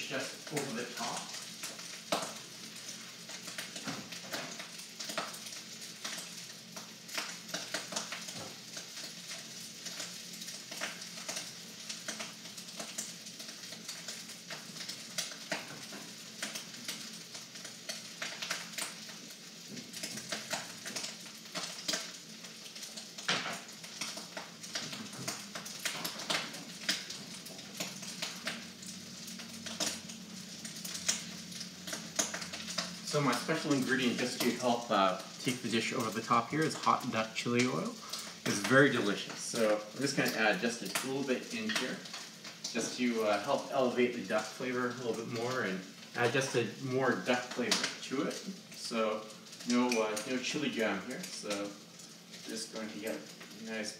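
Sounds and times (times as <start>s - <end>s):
rice sizzling in a wok: 0.0s - 53.9s.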